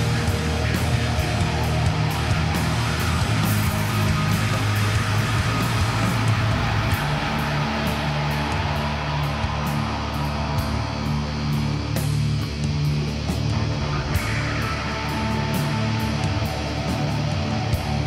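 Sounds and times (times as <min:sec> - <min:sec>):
distorted electric guitar: 0:00.0 - 0:18.0
sustained bass notes: 0:00.0 - 0:18.0.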